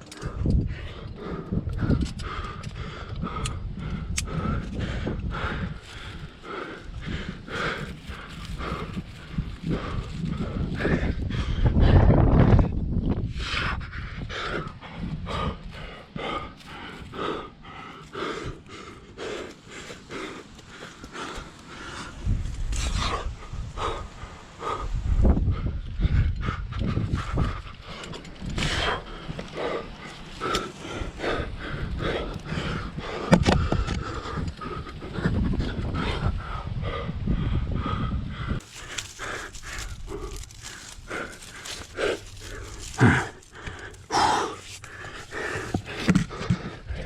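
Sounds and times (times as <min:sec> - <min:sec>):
low rumble on microphone: 0:00.0 - 0:20.3, 0:21.1 - 0:47.0
person breathing hard: 0:00.0 - 0:47.0.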